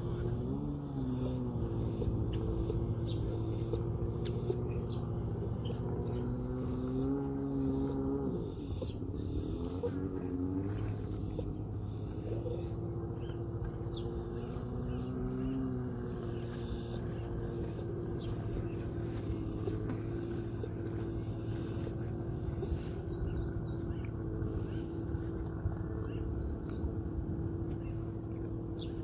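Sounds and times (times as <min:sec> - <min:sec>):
distant jet ski engine hum: 0:00.0 - 0:29.0.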